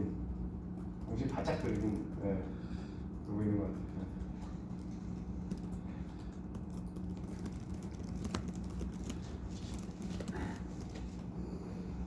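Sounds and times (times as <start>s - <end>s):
laptop keyboard typing: 0.0s - 11.4s
low room hum: 0.0s - 12.0s.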